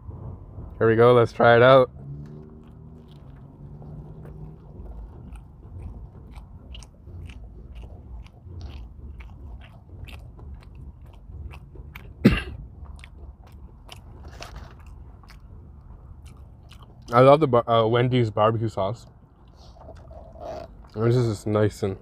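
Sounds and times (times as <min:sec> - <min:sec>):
biting and chewing crunchy food: 0:02.1 - 0:17.5, 0:18.9 - 0:22.0.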